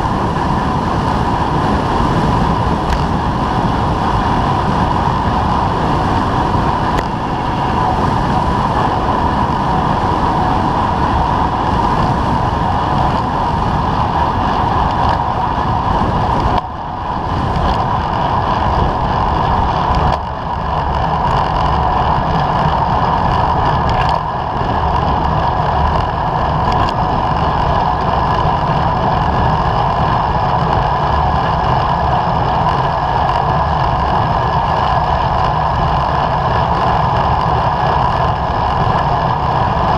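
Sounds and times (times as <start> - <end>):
bicycle road rumble on asphalt: 0.0 - 39.9
wind rush: 0.0 - 39.9.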